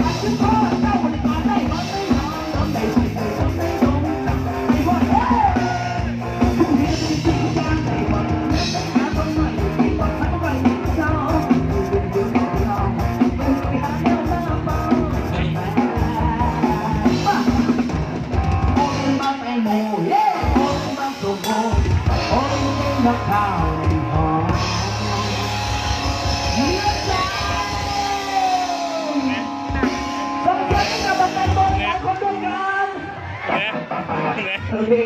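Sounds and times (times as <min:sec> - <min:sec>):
drum kit beat: 0:00.0 - 0:33.0
live band music: 0:00.0 - 0:35.0.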